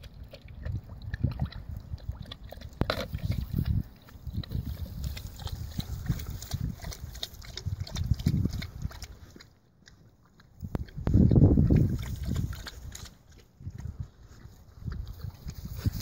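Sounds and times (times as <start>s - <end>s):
pig grunting and snuffling: 0.0s - 16.0s.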